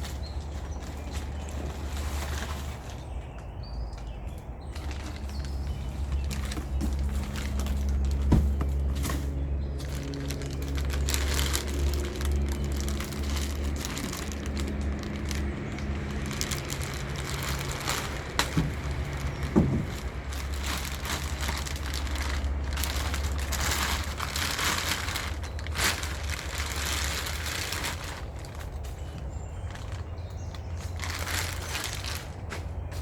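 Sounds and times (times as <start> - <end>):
box and wrapping rustling: 0.0 - 3.3, 4.7 - 33.0.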